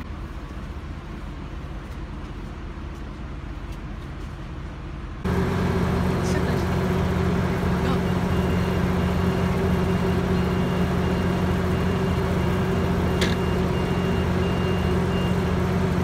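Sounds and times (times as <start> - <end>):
locomotive engine idling: 0.0 - 16.0.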